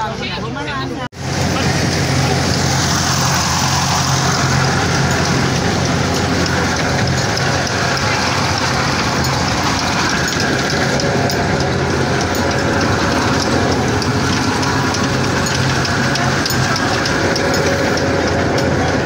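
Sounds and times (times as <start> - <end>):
constant low hum: 1.2 - 19.0
threshing machine rattling: 1.2 - 19.0.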